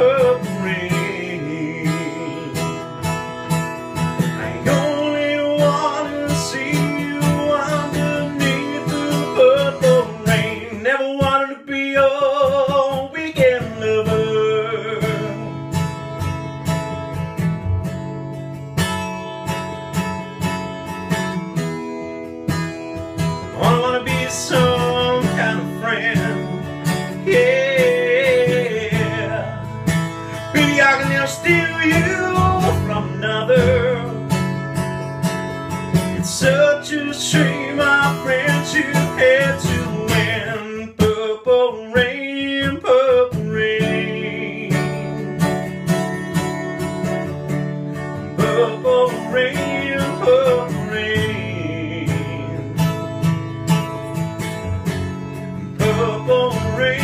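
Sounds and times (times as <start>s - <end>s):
man singing: 0.0s - 16.1s, 22.8s - 54.7s, 55.4s - 57.0s
acoustic guitar strumming: 0.0s - 57.0s.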